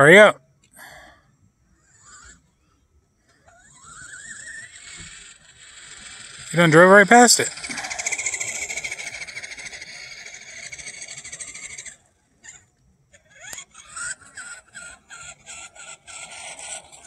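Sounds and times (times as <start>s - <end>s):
toy truck motor whining: 0.8s - 17.0s
short repeated motor whirs: 1.7s - 2.6s, 3.2s - 17.0s.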